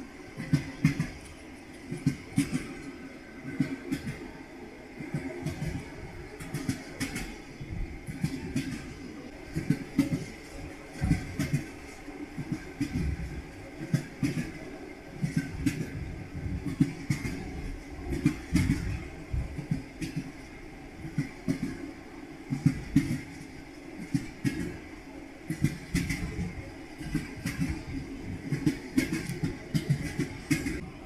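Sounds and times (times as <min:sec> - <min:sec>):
low train rumble: 0:00.0 - 0:31.0
train wheels clattering over rail joints: 0:00.4 - 0:04.4, 0:05.0 - 0:30.8.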